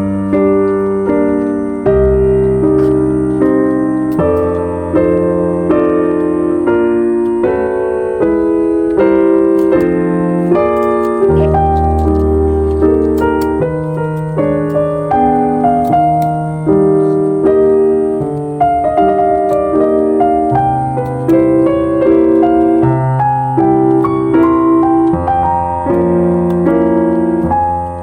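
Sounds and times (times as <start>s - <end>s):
gentle piano chords: 0.0s - 28.0s.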